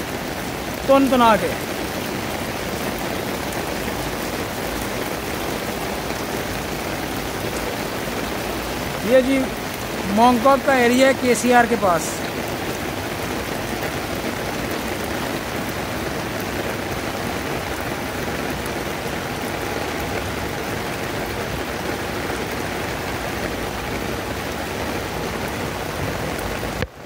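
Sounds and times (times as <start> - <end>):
heavy rain falling: 0.0 - 27.0
raindrops ticking close by: 0.0 - 27.0.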